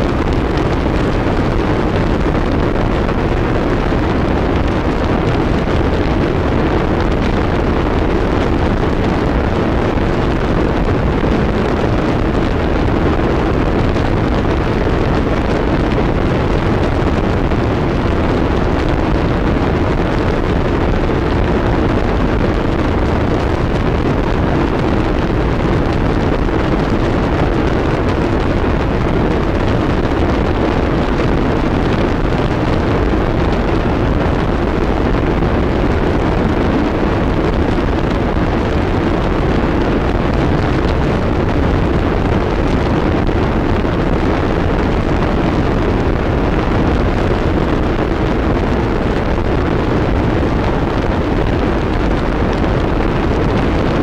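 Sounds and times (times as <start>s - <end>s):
distorted electronic noise wall: 0.0s - 54.0s.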